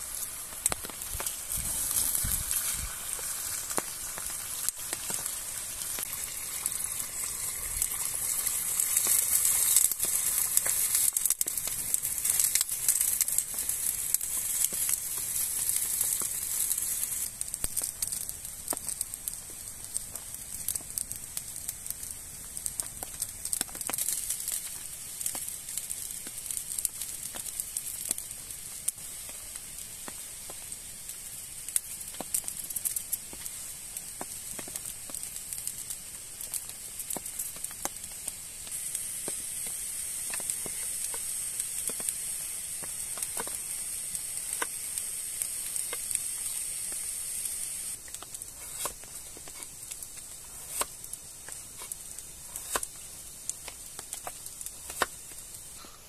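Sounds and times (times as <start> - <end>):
campfire crackling and popping: 0.0 - 56.0
pot simmering with sizzling hiss: 0.0 - 56.0.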